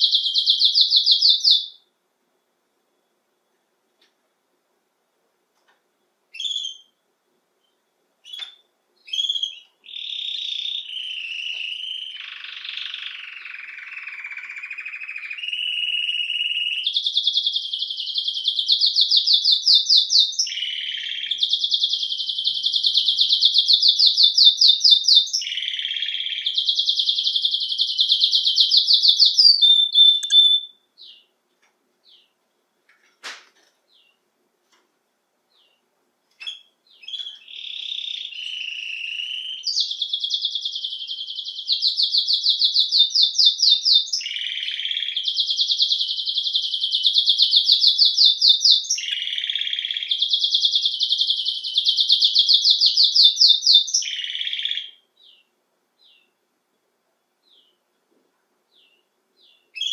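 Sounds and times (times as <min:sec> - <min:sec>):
canary singing: 0:00.0 - 0:01.9, 0:06.3 - 0:07.0, 0:07.6 - 0:31.4, 0:32.0 - 0:32.4, 0:35.5 - 0:56.4, 0:57.4 - 0:57.8, 0:58.7 - 0:59.9.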